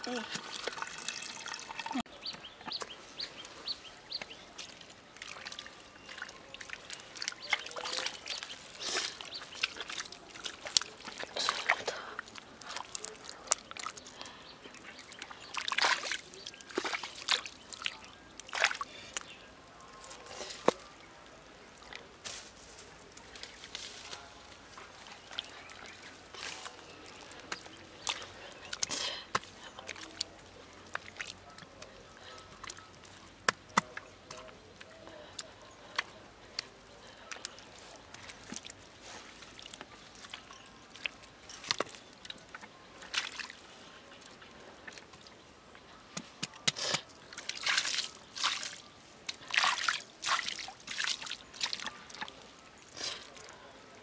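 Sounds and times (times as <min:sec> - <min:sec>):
hands squelching in wet mud: 0:00.0 - 0:54.0.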